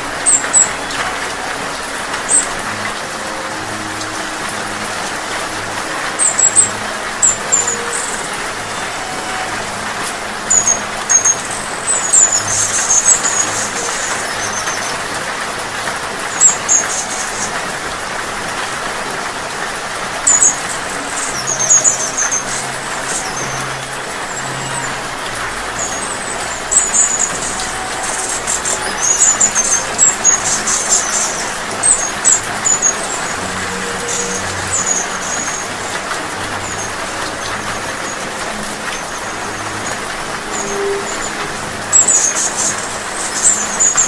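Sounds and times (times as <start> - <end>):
hummingbird chirps: 0.0 - 18.3, 19.7 - 44.0
rain hiss: 0.0 - 44.0.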